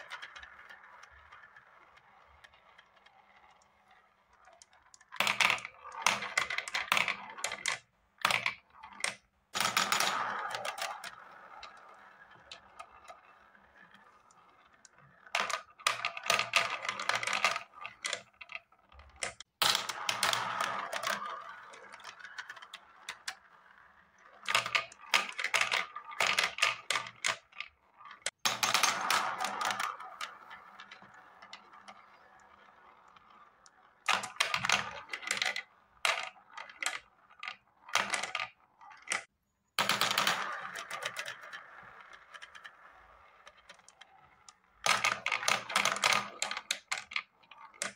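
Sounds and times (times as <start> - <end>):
balls rolling round funnel: 0.0 - 47.9.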